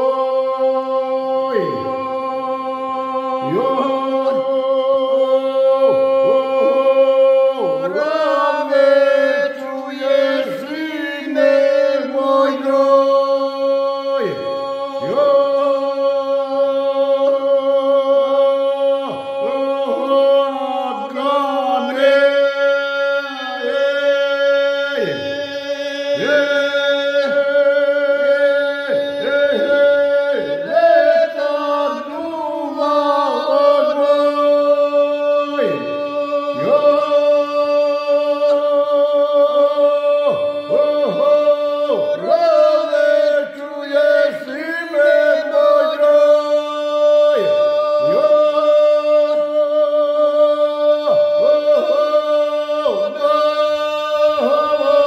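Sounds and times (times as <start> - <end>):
man and woman singing a cappella: 0.0 - 55.0.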